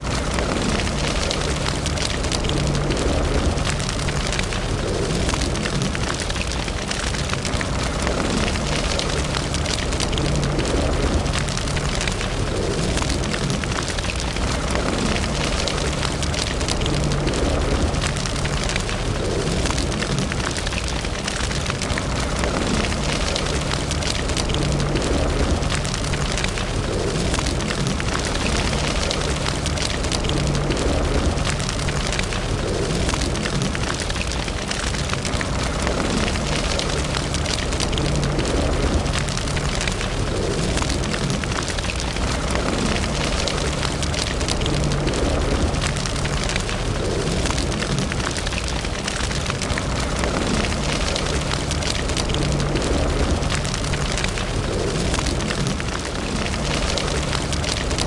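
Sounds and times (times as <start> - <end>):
fire low rumble: 0.0 - 58.0
fireplace fire crackling: 0.0 - 58.0.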